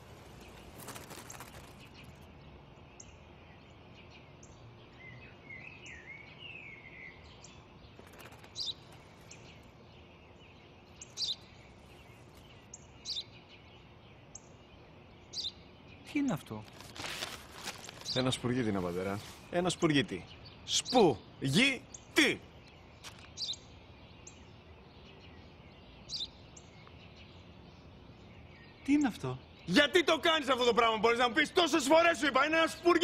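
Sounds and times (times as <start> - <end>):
sparrow chirping: 0.0 - 16.9, 17.8 - 33.0
faint outdoor background: 0.0 - 33.0
warbling birdsong: 0.0 - 33.0.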